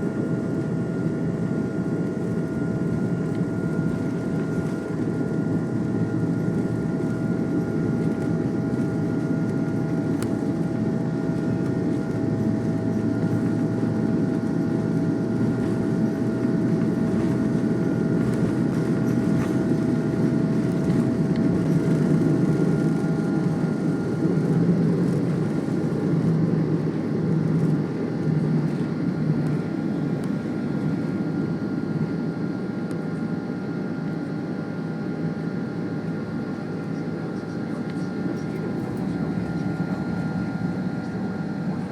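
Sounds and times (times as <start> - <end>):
steady whining tones: 0.0 - 32.7, 35.8 - 41.9
jet engines roaring: 0.0 - 33.0, 35.8 - 41.9.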